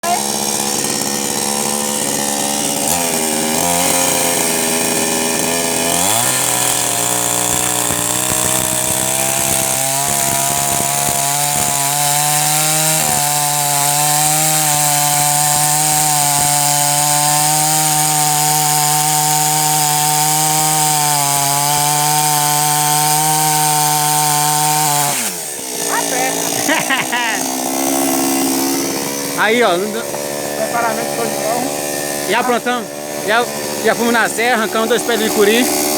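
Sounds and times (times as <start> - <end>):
chainsaw cutting firewood: 0.0 - 35.9.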